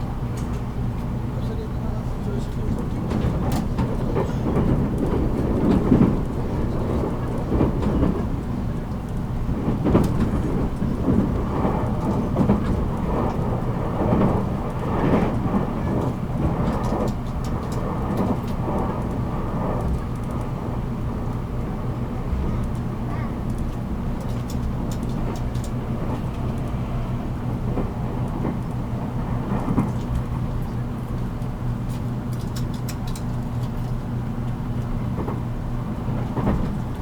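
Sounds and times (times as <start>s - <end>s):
wheels rumbling on rails: 0.0s - 37.0s.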